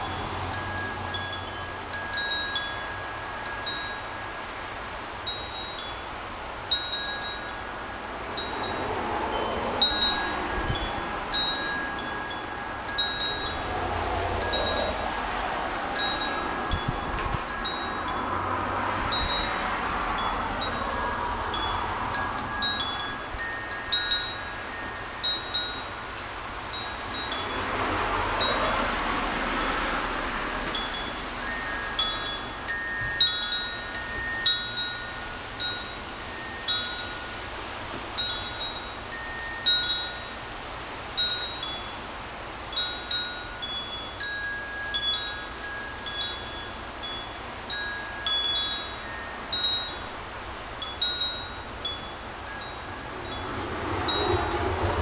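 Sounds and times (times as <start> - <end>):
metal wind chime ringing: 0.0 - 15.1, 15.9 - 40.6, 41.2 - 54.6
wind gusts buffeting microphone: 0.0 - 55.0.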